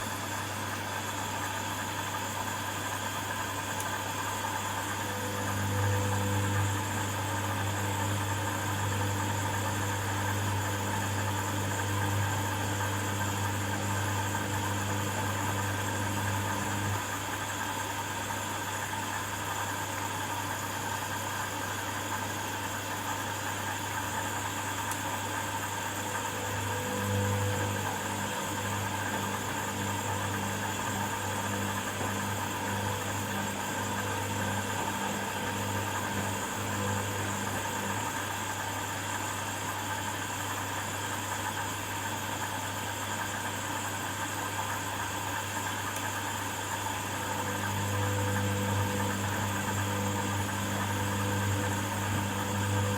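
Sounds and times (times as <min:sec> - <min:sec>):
washing machine hum: 0:00.0 - 0:52.9.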